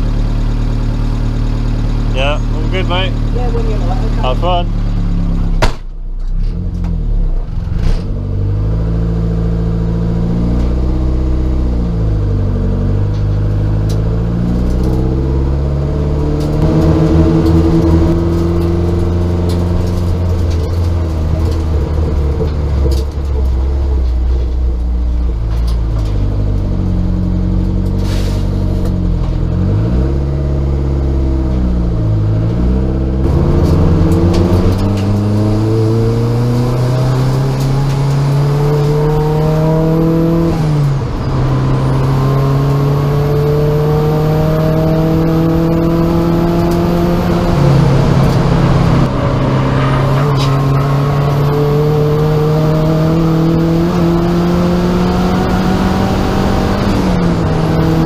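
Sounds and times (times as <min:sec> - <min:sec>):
race car engine revving: 0:00.8 - 0:05.7, 0:06.4 - 0:24.1, 0:25.6 - 0:58.0.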